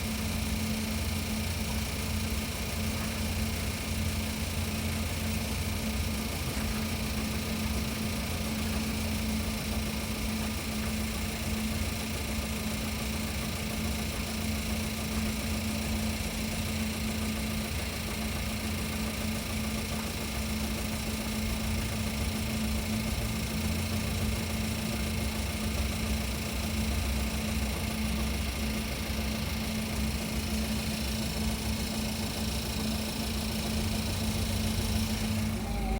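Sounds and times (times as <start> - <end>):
engine idling with knock: 0.0 - 35.9.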